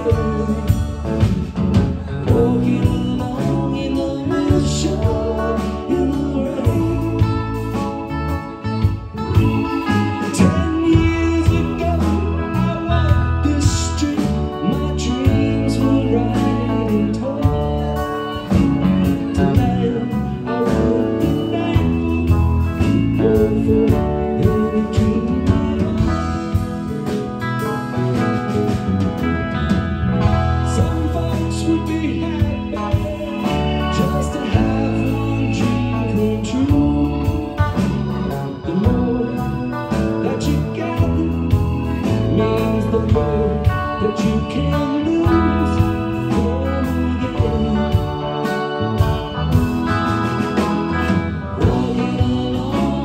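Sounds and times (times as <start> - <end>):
bass guitar: 0.0 - 53.0
drum kit: 0.0 - 53.0
electric guitar: 0.0 - 53.0
keyboards: 0.0 - 53.0.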